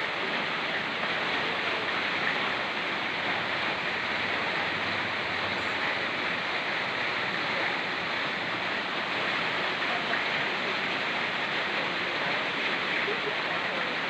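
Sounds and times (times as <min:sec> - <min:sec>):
rain pattering: 0:00.0 - 0:14.0
stream rushing over rocks: 0:00.0 - 0:14.0.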